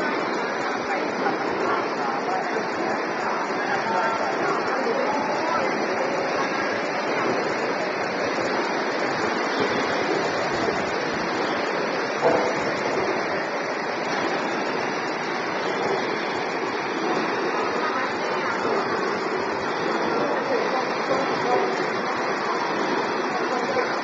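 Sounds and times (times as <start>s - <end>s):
machine hiss: 0.0s - 24.0s.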